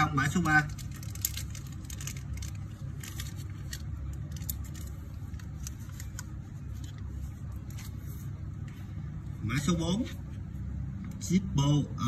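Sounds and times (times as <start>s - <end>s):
background traffic rumble: 0.0s - 12.0s.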